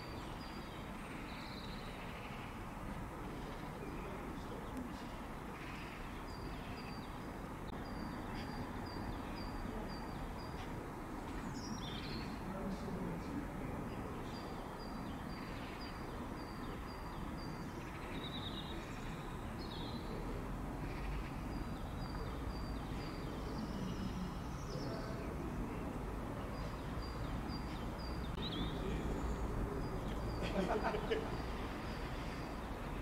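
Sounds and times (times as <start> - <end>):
birds singing: 0.0 - 33.0.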